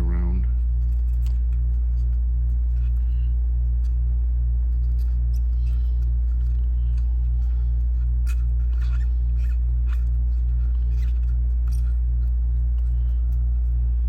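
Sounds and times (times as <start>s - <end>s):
cotton swab scratching circuit board: 0.0s - 14.0s
low electrical hum: 0.0s - 14.0s.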